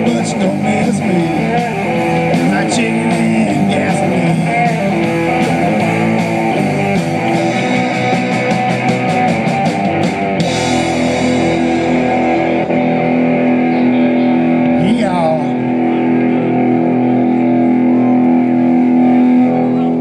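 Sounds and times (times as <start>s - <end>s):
electric guitar strokes and chord: 0.0s - 20.0s
live rock band playing: 0.0s - 20.0s.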